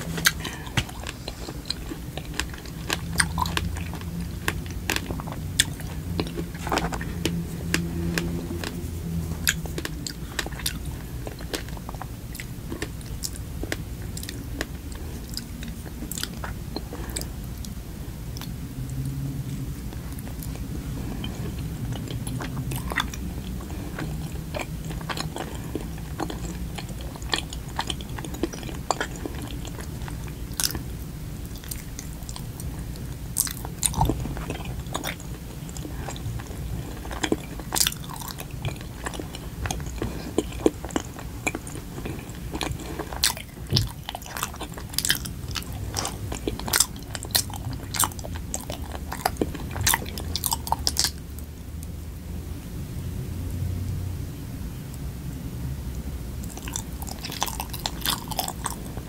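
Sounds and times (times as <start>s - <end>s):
chewing sticky rice cake: 0.0s - 52.0s, 56.4s - 59.0s.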